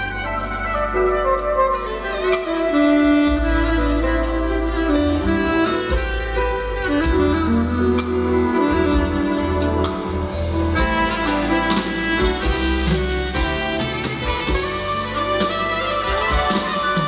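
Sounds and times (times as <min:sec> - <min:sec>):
bass: 0:00.0 - 0:17.0
drums: 0:00.0 - 0:17.0
soprano saxophone melody: 0:00.0 - 0:17.0.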